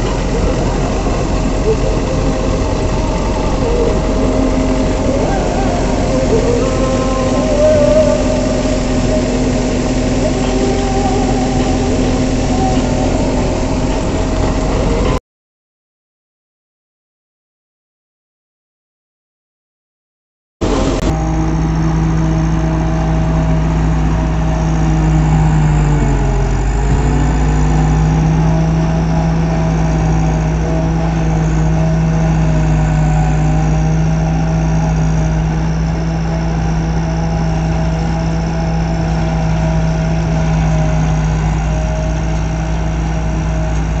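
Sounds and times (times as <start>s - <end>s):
combine harvester engine running: 0.0s - 15.2s, 20.6s - 44.0s.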